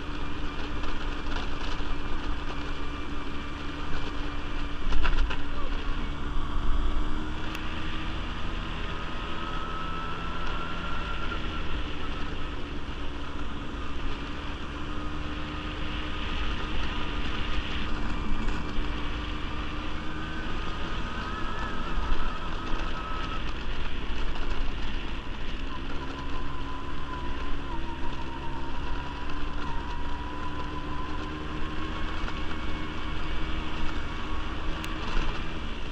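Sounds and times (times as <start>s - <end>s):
quad bike engine running: 0.0s - 35.9s.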